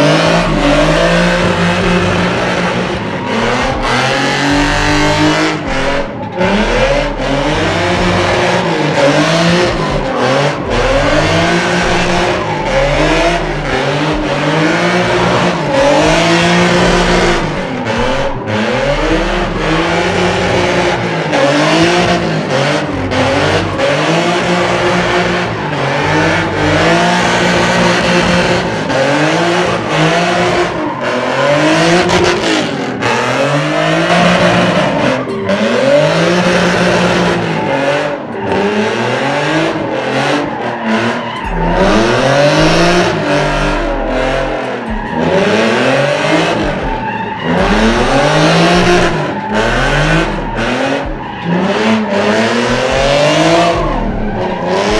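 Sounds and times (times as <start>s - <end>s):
car engine revving hard: 0.0s - 54.9s
tyres squealing: 0.0s - 54.9s.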